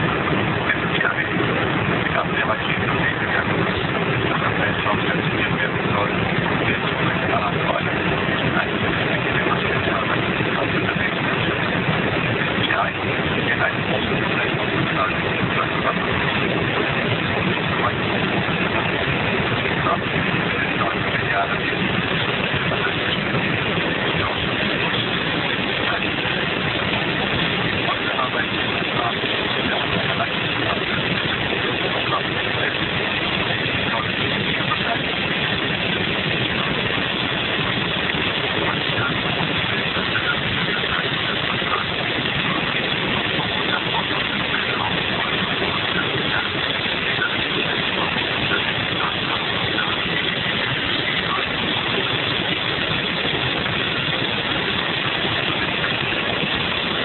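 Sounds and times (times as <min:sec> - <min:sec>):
car engine at high speed: 0:00.0 - 0:57.0
wind noise: 0:00.0 - 0:57.0.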